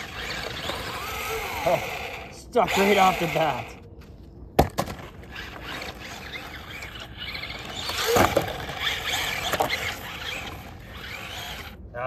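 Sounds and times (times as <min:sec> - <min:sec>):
toy car motor whining: 0:00.0 - 0:03.8, 0:05.0 - 0:12.0
wheels spinning on dirt: 0:00.0 - 0:03.8, 0:04.8 - 0:12.0.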